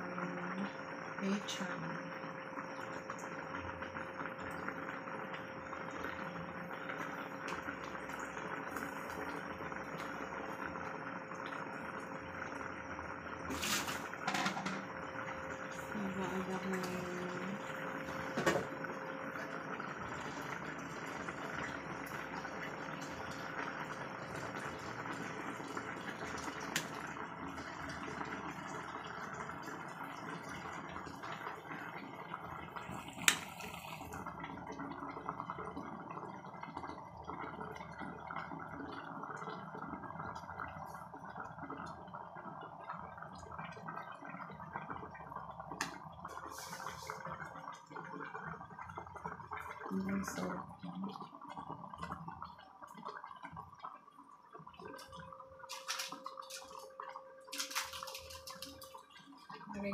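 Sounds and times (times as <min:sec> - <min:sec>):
soup bubbling in a pot: 0:00.0 - 0:59.9.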